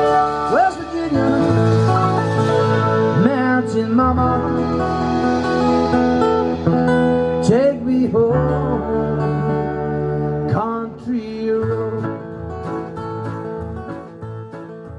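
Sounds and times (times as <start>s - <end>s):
person singing: 0.0s - 12.4s
acoustic guitar strumming: 0.0s - 14.9s
keyboard chords: 0.0s - 14.9s.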